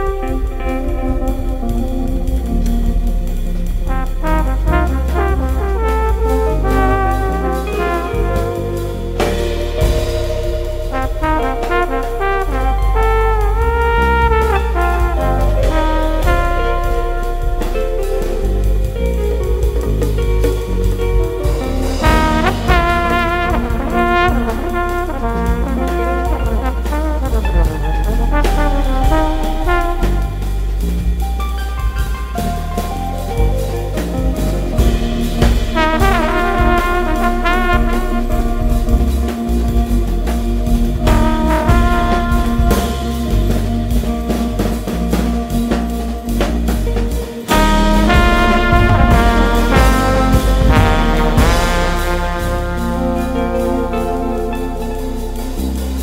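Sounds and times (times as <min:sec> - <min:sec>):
deep bass line: 0:00.0 - 0:56.0
drum kit: 0:00.0 - 0:56.0
jazz trombone: 0:00.0 - 0:56.0.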